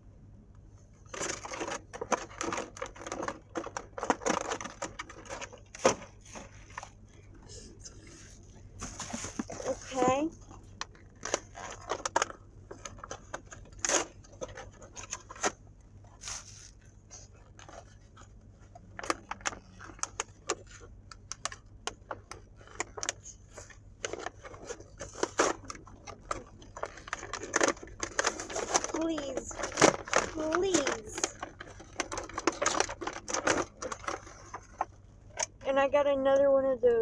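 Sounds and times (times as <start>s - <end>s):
plastic packaging crinkling: 1.0s - 7.2s, 8.7s - 35.5s.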